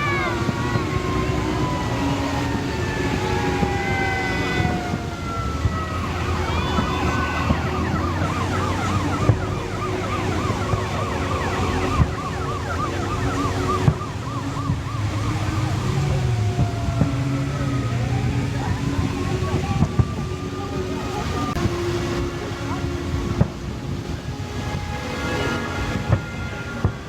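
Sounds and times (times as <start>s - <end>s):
emergency vehicle siren: 0.0s - 27.0s
traffic rumble: 0.0s - 27.0s.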